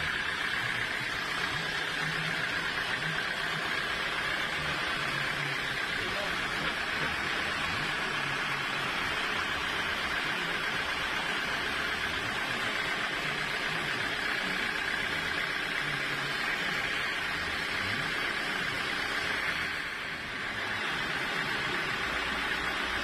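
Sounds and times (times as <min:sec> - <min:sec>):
sawmill machinery running: 0:00.0 - 0:23.0.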